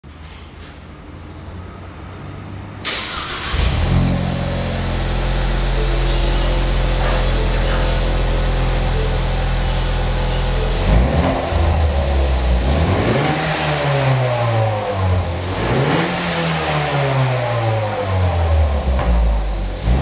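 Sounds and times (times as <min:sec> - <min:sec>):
car engine idling and revving: 0:00.6 - 0:20.0.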